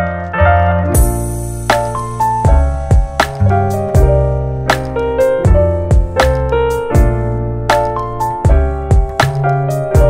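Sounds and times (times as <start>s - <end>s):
keyboard chords with bass and beat: 0.0s - 10.0s.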